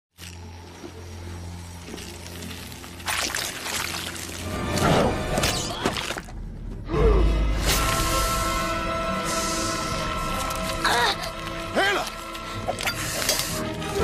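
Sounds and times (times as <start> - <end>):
low music drone: 0.2 - 14.0.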